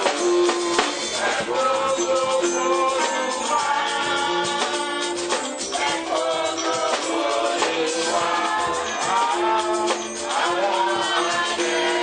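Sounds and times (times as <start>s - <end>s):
congregation singing: 0.0s - 12.0s
rattling shaker: 0.0s - 12.0s.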